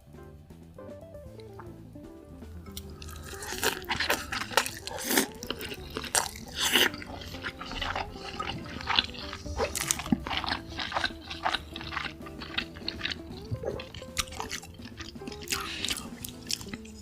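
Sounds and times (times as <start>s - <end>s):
wet chewing and mouth sounds: 2.4s - 17.0s
crunching bites: 2.6s - 17.0s.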